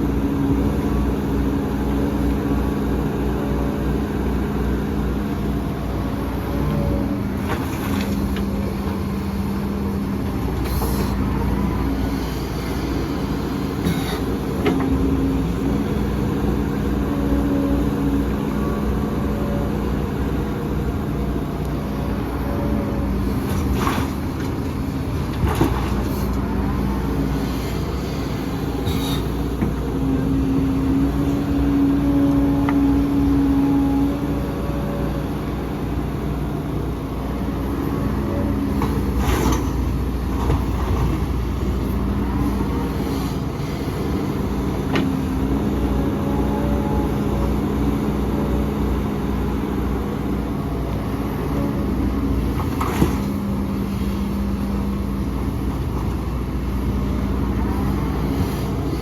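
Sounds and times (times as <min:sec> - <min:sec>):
diesel earthmoving machinery running: 0:00.0 - 0:59.0.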